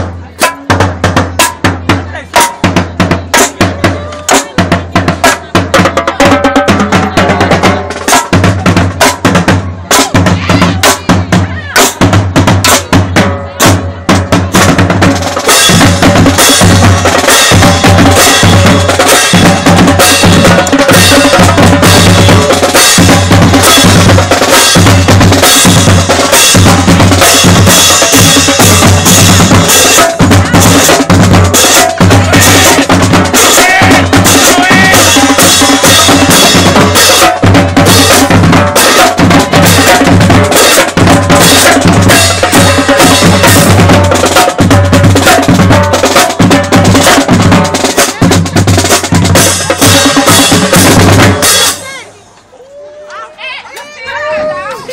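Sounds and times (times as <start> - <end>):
marching drumline cadence: 0.0 - 52.5.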